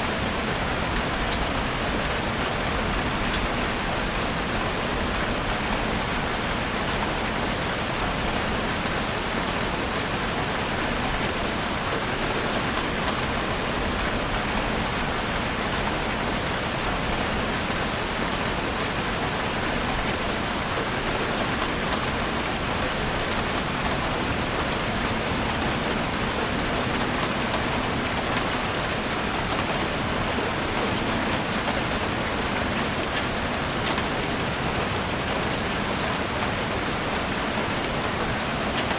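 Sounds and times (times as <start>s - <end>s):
heavy rain drumming on a roof: 0.0s - 38.9s.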